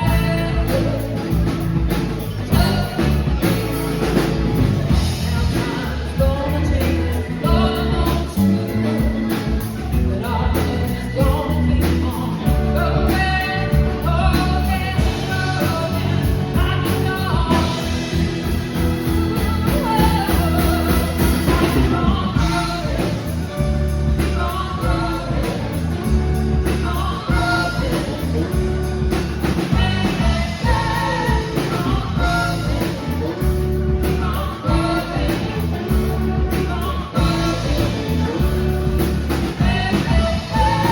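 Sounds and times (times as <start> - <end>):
live rock band playing: 0.0 - 40.9
person singing: 0.0 - 40.9.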